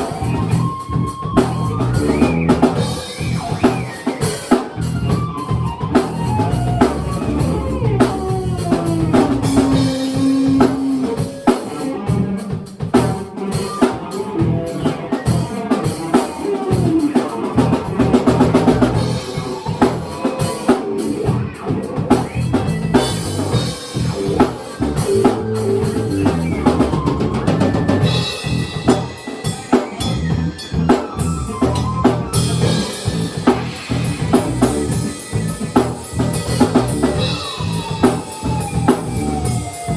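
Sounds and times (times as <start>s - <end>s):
drum kit beat: 0.0s - 39.9s
pitched instruments playing: 0.0s - 39.9s.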